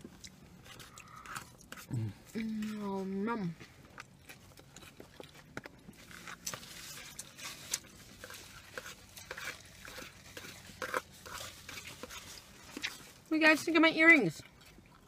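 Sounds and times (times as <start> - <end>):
chewing and mouth noises: 0.0 - 15.0.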